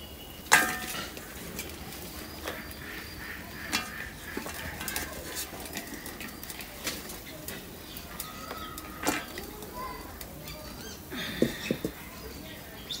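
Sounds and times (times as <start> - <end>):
bean pods rustling in basket: 0.2 - 12.0.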